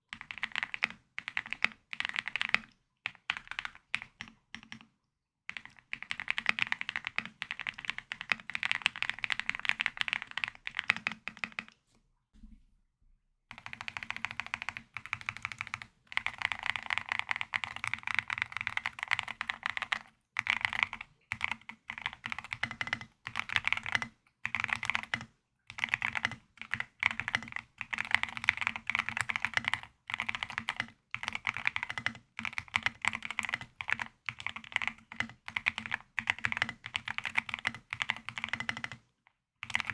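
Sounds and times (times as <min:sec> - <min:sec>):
mechanical keyboard typing: 0:00.1 - 0:04.9, 0:05.5 - 0:11.8, 0:13.5 - 0:39.0, 0:39.6 - 0:39.9.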